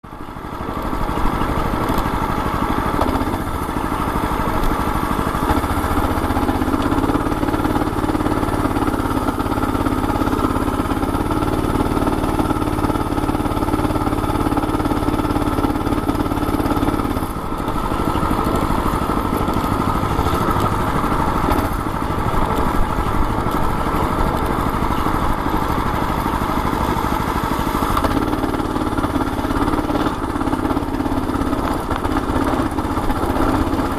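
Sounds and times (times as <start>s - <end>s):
mini bike engine running: 0.0s - 33.9s.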